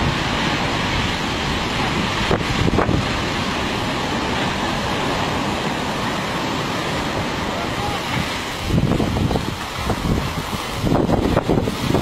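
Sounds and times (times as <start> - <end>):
heavy surf breaking: 0.0 - 12.0
wind buffeting microphone: 0.0 - 12.0.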